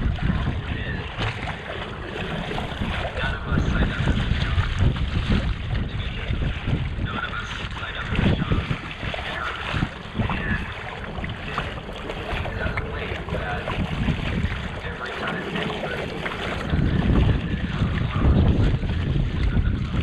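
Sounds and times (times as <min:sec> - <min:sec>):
water splashing: 0:00.0 - 0:20.0
wind buffeting microphone: 0:00.0 - 0:20.0.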